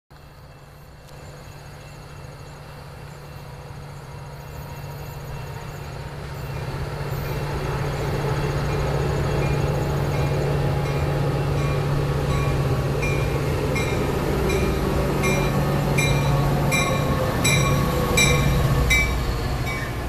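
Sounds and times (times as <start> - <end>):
diesel train engine rumble: 0.1 - 20.0.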